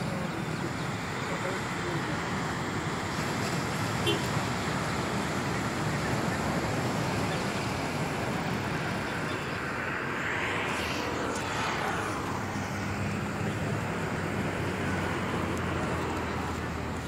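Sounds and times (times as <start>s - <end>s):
road traffic: 0.0s - 17.0s
vehicle passing rush: 0.0s - 17.0s.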